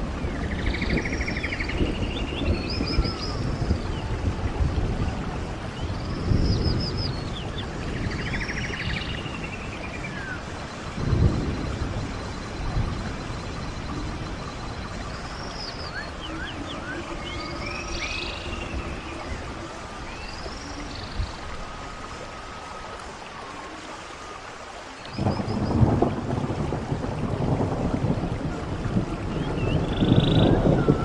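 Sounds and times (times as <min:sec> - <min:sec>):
songbirds singing: 0:00.0 - 0:04.4, 0:05.0 - 0:26.1, 0:29.1 - 0:31.0
stream water running: 0:00.0 - 0:31.0.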